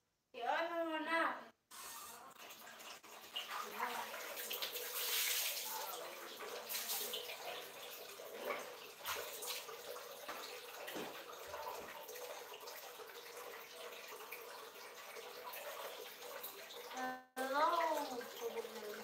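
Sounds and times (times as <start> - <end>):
water running from tap into bucket: 1.7 - 19.0
dipper splashing water: 2.3 - 19.0.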